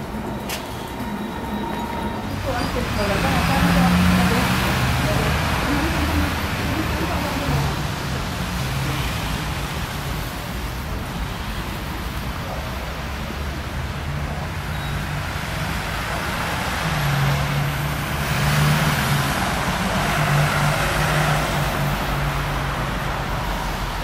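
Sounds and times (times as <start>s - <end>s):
cars driving on wet street: 0.0s - 24.0s.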